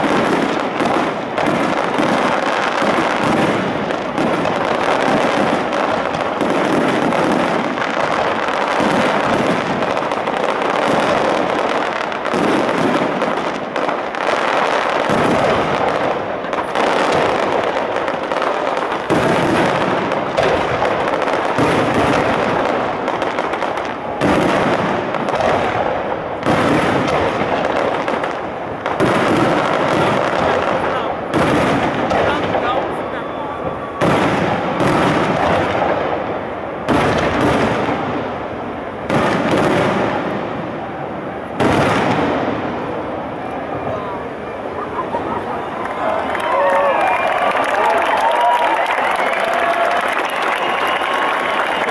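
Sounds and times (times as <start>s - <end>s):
fireworks bursting and crackling: 0.0s - 51.9s.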